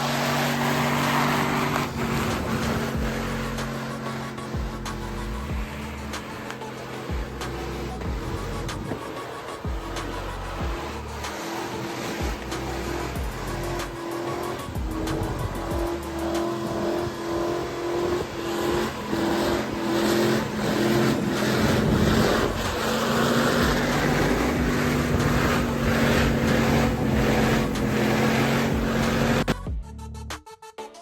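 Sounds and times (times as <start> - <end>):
tyres squealing: 0.0 - 29.6
car engine revving high: 0.0 - 29.7.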